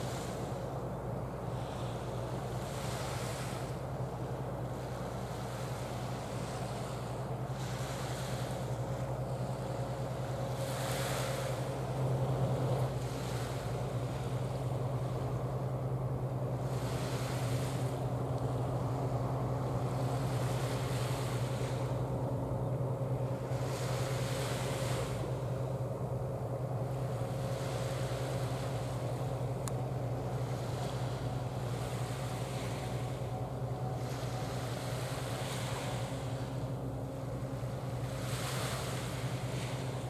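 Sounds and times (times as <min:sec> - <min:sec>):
ship engine drone: 0:00.0 - 0:40.0
water noise: 0:00.0 - 0:40.0
wind: 0:00.0 - 0:40.0.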